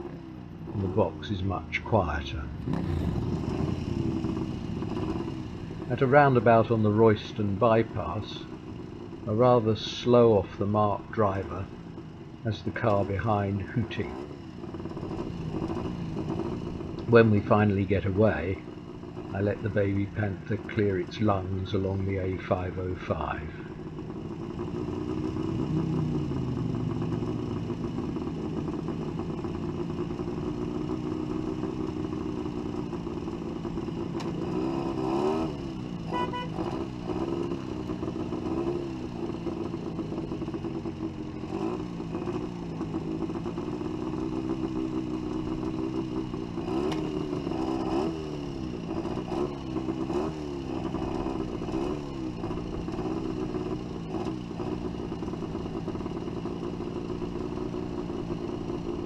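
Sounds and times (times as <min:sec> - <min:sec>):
motorcycle engine idling unevenly: 0:00.0 - 0:34.5, 0:35.5 - 0:59.0.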